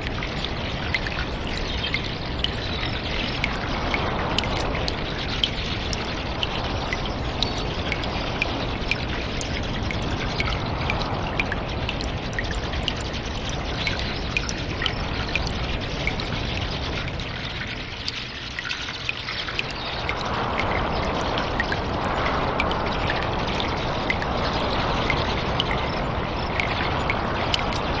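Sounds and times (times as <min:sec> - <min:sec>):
running water: 0:00.0 - 0:28.0
water dripping: 0:00.0 - 0:28.0.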